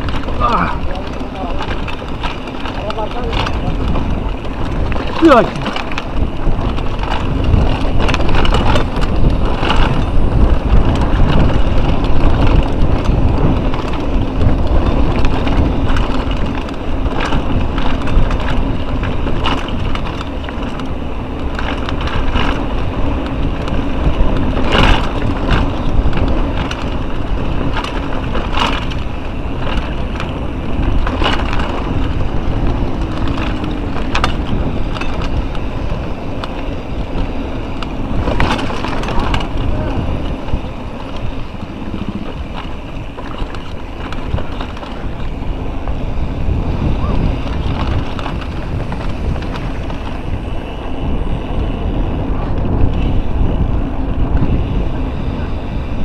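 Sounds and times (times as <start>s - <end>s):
bike rattling: 0.0s - 56.0s
bike tyres rumbling on dirt: 0.0s - 56.0s
wind buffeting microphone: 0.0s - 56.0s.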